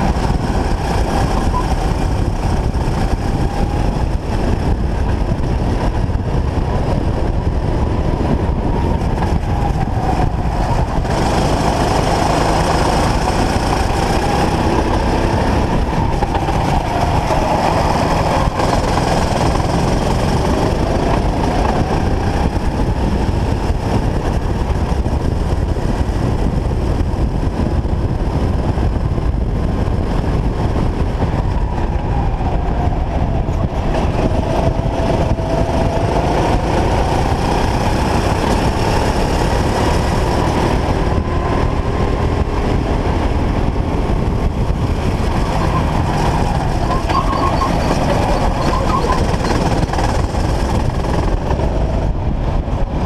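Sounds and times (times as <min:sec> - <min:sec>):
kart engine whine: 0:00.0 - 0:53.0
wind buffeting microphone: 0:00.0 - 0:53.0.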